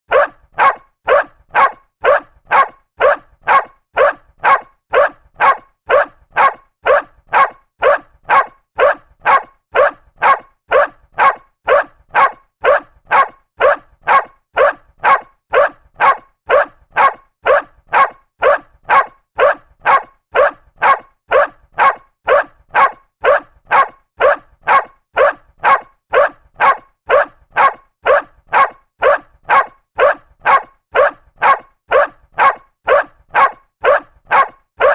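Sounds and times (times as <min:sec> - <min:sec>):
dog barking: 0:00.1 - 0:34.9.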